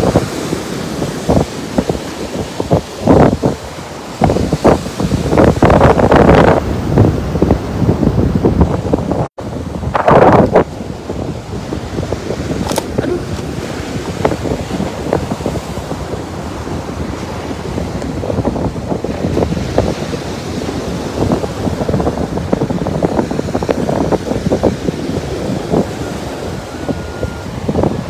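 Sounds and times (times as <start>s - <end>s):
surf on pebble beach: 0.0s - 28.0s
wind buffeting microphone: 0.0s - 28.0s.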